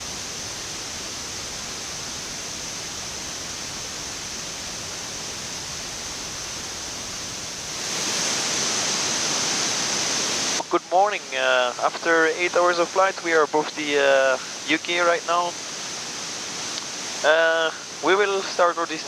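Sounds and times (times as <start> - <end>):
rushing air hiss in cockpit: 0.0 - 10.7, 11.3 - 19.0.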